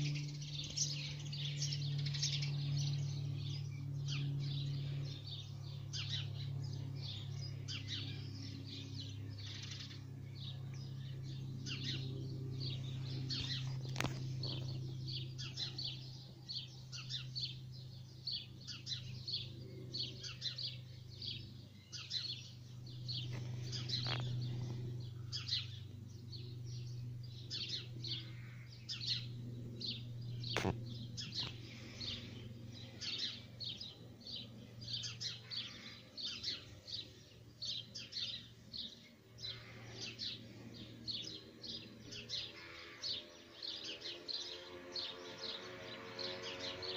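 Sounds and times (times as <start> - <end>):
songbird chirping: 0.0 - 46.9
steady low hum: 0.0 - 46.9.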